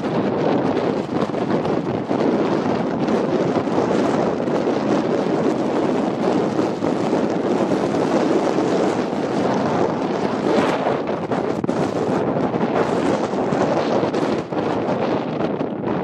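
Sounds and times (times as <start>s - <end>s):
car tyre and engine noise: 0.0s - 16.0s
wind rushing on microphone: 0.0s - 16.0s.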